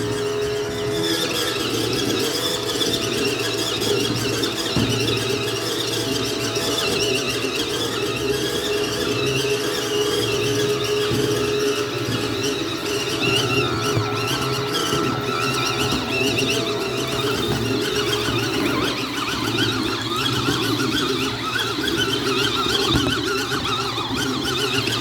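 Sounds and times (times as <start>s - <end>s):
washing machine motor hum: 0.0s - 25.0s.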